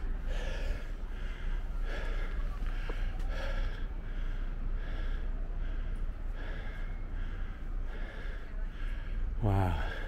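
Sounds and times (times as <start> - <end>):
man breathing hard: 0.0 - 10.0.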